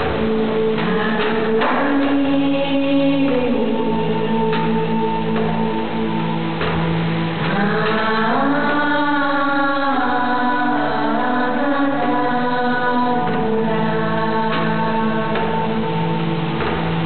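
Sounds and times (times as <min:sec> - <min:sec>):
person singing long gliding notes: 0:00.0 - 0:17.0.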